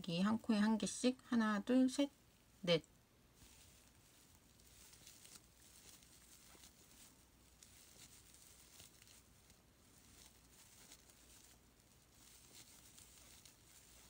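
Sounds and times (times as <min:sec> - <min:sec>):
low steady hum: 0:00.0 - 0:14.0
yarn rustling with crochet hook: 0:00.0 - 0:14.0.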